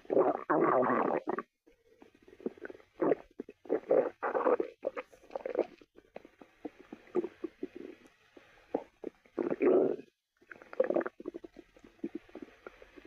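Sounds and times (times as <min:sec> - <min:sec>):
stomach growling: 0:00.0 - 0:13.0.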